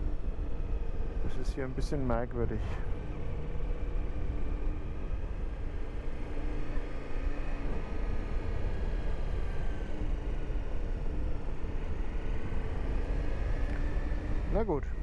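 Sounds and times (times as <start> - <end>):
low rumble of wind noise: 0.0 - 15.0.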